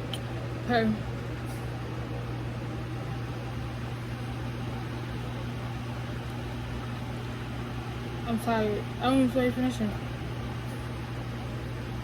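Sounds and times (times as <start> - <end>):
steady low hum with hiss: 0.0 - 12.0.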